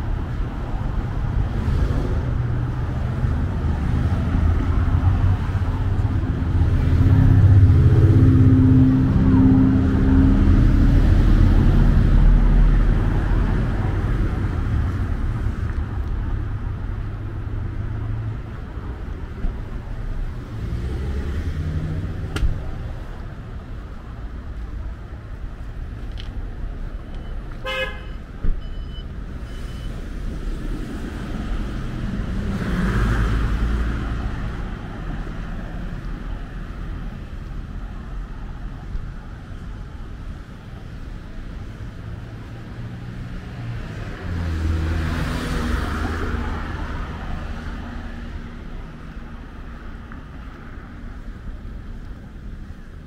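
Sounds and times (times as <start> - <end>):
cars passing on highway: 0.0 - 53.0.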